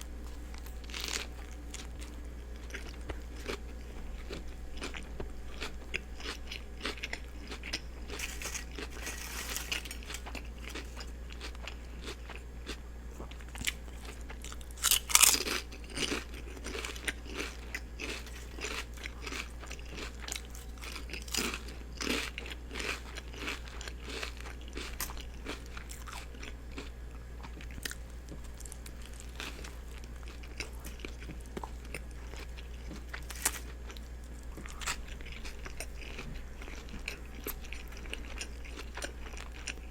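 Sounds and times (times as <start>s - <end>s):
crunchy chewing of sandwich: 0.0s - 39.9s
steady low hum: 0.0s - 39.9s.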